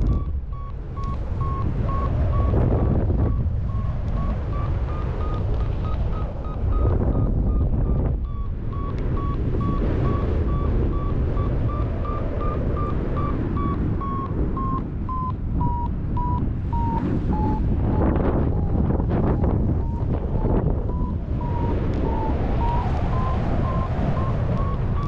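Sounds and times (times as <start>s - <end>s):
variometer climb beeps: 0.0s - 25.0s
wind buffeting microphone: 0.0s - 25.0s.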